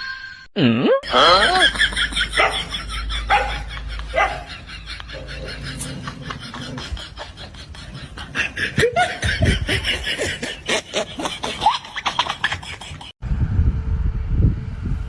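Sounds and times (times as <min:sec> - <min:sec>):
person laughing: 0:00.6 - 0:13.2.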